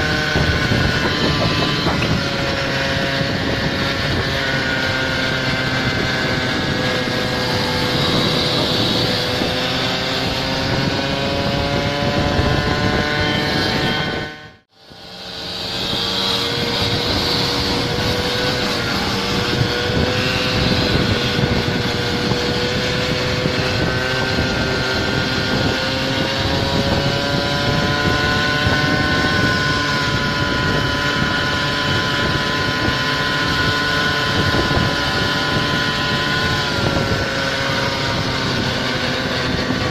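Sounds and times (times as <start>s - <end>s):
small scooter engine buzzing: 0.0s - 39.9s.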